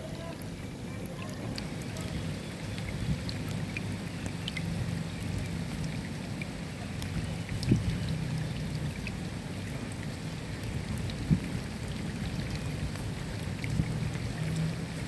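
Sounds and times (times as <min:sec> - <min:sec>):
low steady rumble: 0:00.0 - 0:15.0
raindrops clicking on a surface: 0:00.0 - 0:15.0
steady rain falling: 0:00.0 - 0:15.0.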